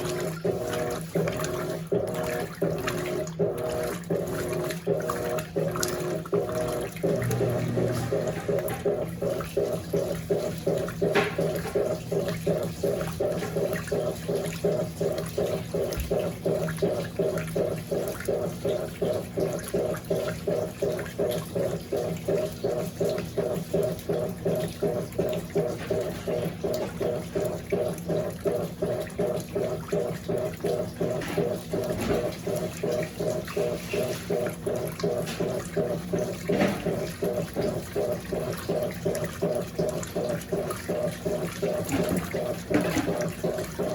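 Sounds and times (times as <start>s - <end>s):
motor hum: 0.0s - 43.9s
washing machine agitator churning water: 0.0s - 43.9s.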